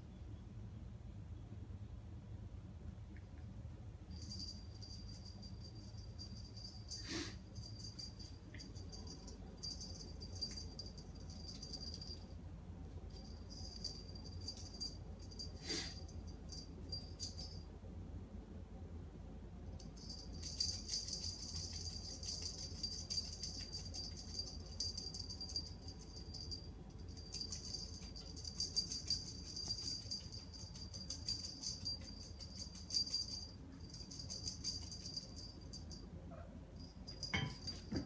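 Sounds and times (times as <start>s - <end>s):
small jingle bell jingling: 4.1s - 12.4s, 13.1s - 17.7s, 19.8s - 38.0s.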